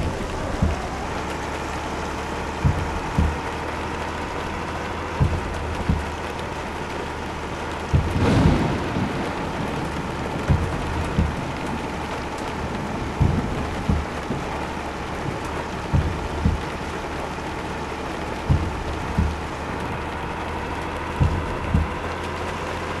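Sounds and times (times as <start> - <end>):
wheels thumping over bumps: 0.0 - 22.6
low rumble: 0.0 - 22.9
truck running noise: 0.0 - 23.0.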